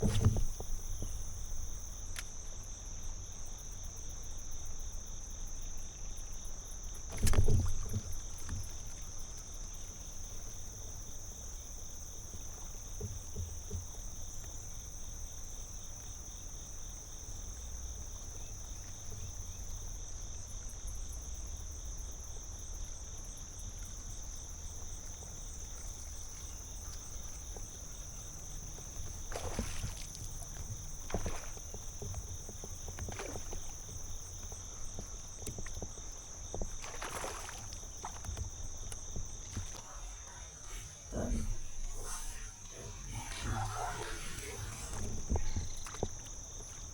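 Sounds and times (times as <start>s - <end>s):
high-pitched insect chorus: 0.0s - 46.9s
low rumble of water: 0.0s - 46.9s.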